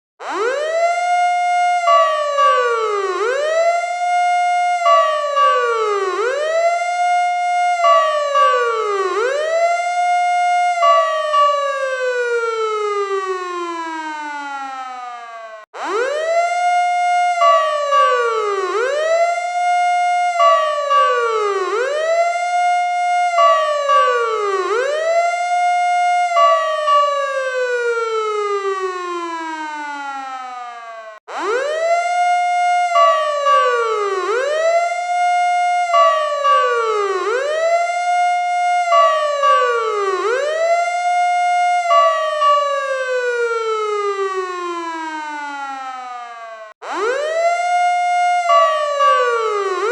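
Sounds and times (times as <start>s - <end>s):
fire truck siren wailing: 0.2s - 49.9s.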